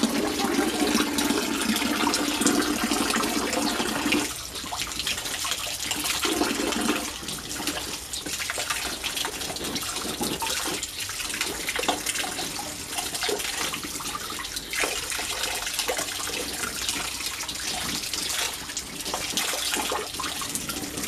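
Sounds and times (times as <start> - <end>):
hose water splashing into pool: 0.0 - 21.0.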